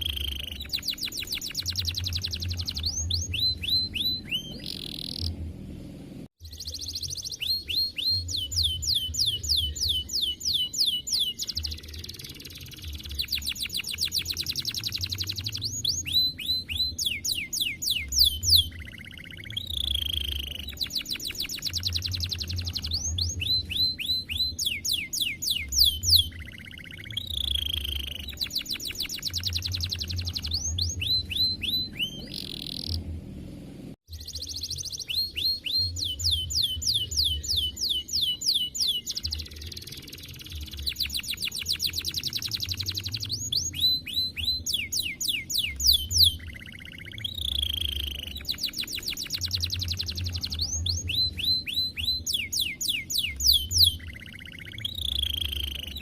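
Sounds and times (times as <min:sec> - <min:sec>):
canary singing trills: 0:00.0 - 0:05.4, 0:06.4 - 0:33.1, 0:34.1 - 0:56.0.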